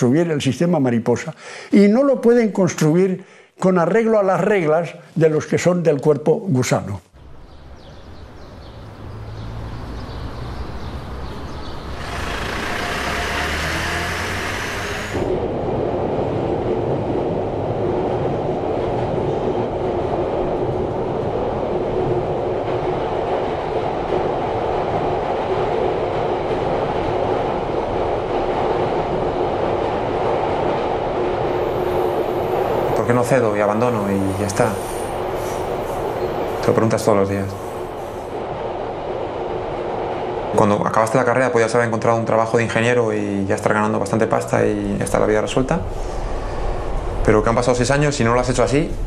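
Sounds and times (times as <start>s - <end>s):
metro train running: 7.2s - 49.0s.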